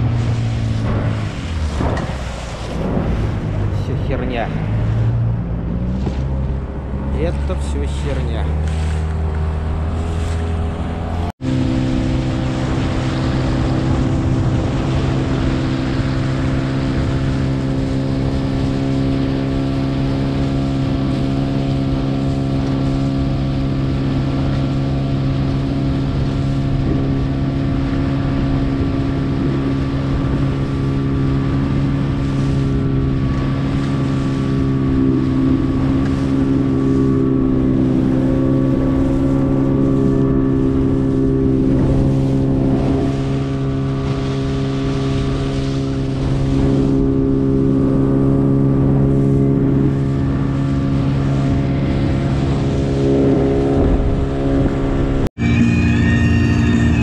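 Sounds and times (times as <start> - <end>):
wind buffeting microphone: 0.0 - 7.2, 8.6 - 55.4
outboard motor running: 0.0 - 57.0.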